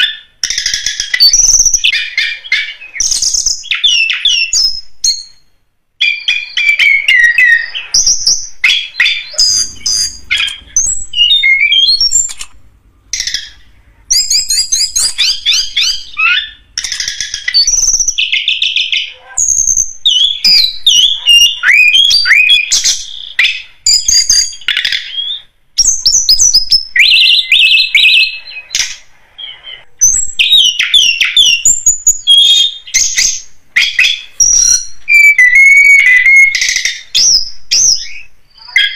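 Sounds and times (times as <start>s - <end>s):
bird chirps and whistles: 0.0s - 12.4s, 13.2s - 38.9s.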